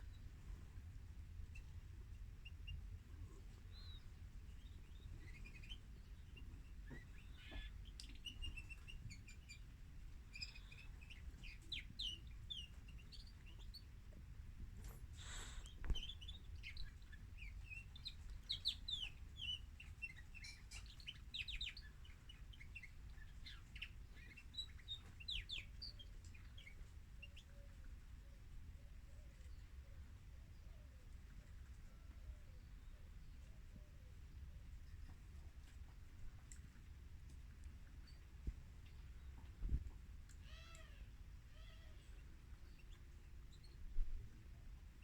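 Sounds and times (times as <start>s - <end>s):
canary chirps and trills: 0.0s - 45.0s.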